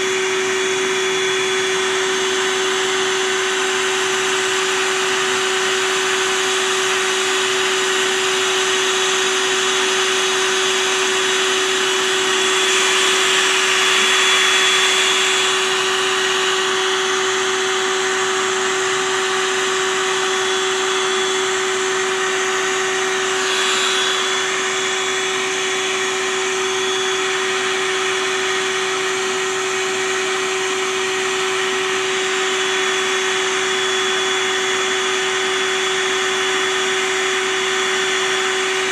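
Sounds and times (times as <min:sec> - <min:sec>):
vacuum motor whining: 0:00.0 - 0:38.9.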